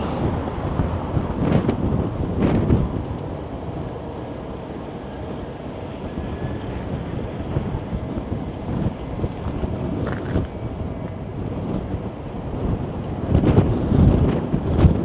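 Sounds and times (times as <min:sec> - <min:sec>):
gusty wind on microphone: 0:00.0 - 0:15.0
street traffic noise: 0:00.0 - 0:15.0.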